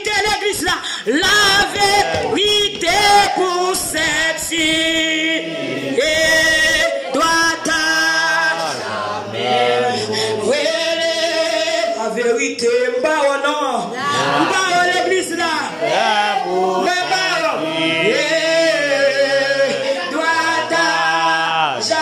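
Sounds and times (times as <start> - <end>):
congregation singing a hymn: 0.0 - 22.0.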